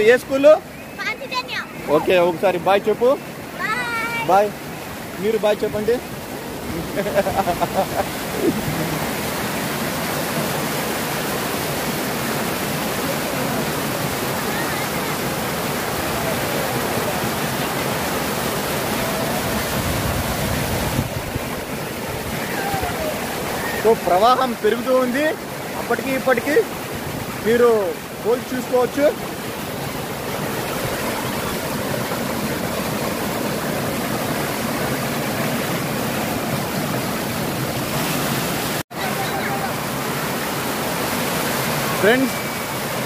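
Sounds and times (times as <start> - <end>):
water rushing over weir: 0.0 - 43.0.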